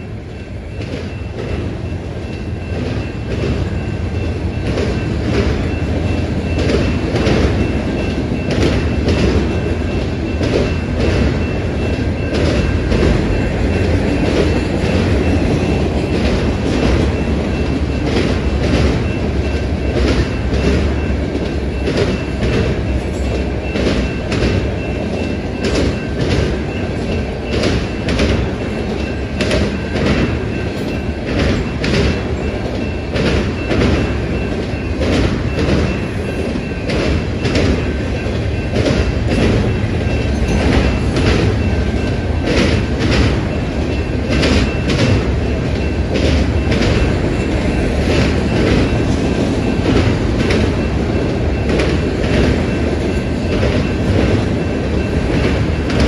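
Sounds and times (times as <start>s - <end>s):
steel wheels rumbling on rail: 0.0s - 56.0s
wheels clacking over rail joints: 0.0s - 56.0s.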